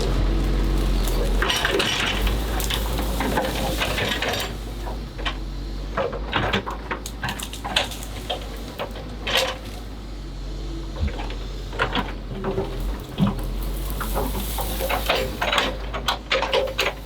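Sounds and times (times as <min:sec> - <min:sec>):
toy excavator clattering and scraping: 0:00.0 - 0:10.0, 0:11.0 - 0:17.0.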